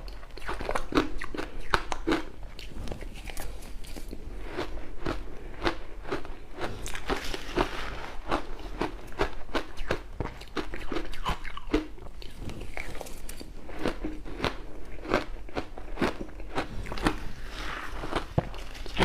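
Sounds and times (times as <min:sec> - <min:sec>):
crushed ice being chewed: 0:00.0 - 0:19.0.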